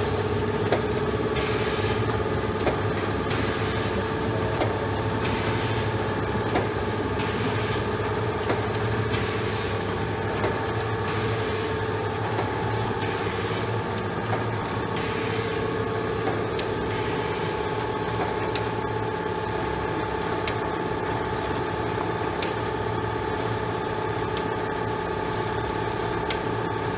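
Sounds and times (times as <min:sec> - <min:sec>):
machine humming: 0:00.0 - 0:26.9.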